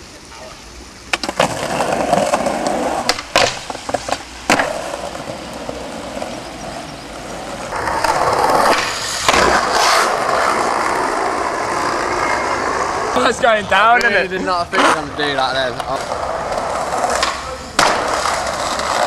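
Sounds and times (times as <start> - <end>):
skateboard wheels rolling: 0.0 - 19.0
skateboard clacks: 1.1 - 13.3, 14.8 - 19.0.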